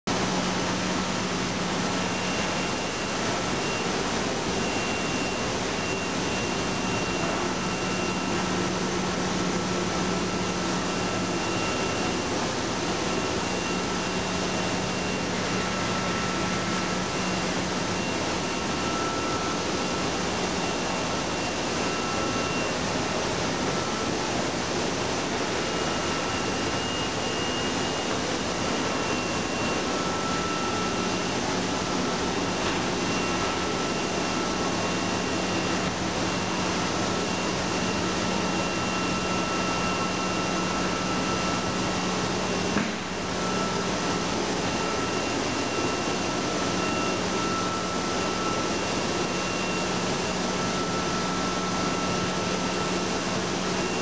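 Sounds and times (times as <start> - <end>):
faint high whine: 0.1 - 54.0.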